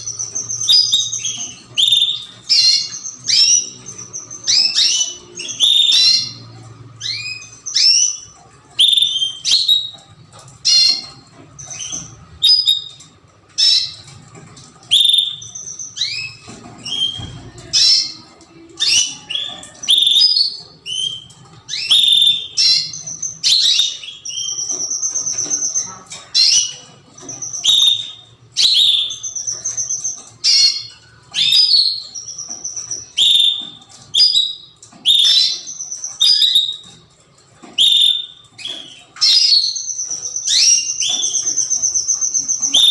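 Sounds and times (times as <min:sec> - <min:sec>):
canaries singing: 0:00.0 - 0:42.9.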